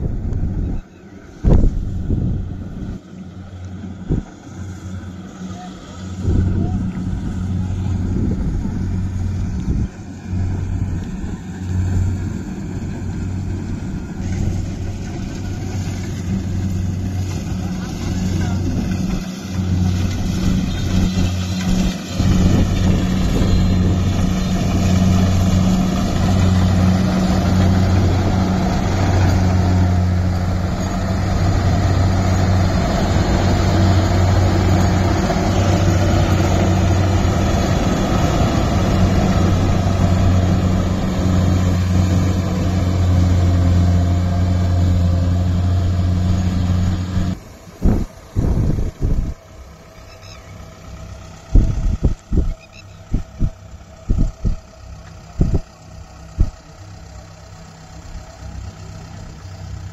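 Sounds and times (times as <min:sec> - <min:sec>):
combine harvester diesel drone: 0:00.0 - 0:59.9.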